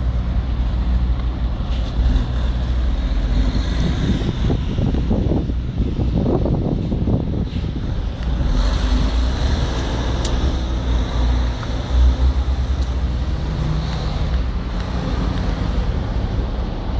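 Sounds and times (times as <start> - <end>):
diesel truck engine rumbling: 0.0 - 16.9
road traffic: 0.0 - 16.9.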